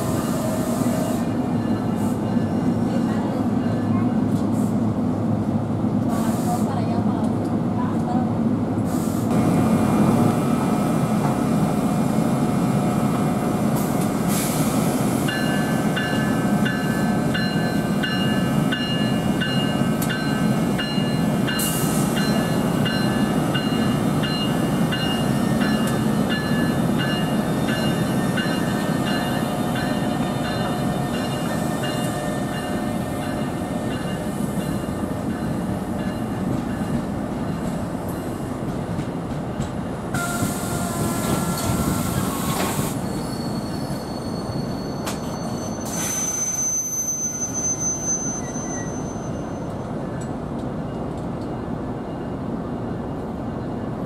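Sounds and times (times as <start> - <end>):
train rumbling along track: 0.0 - 54.0.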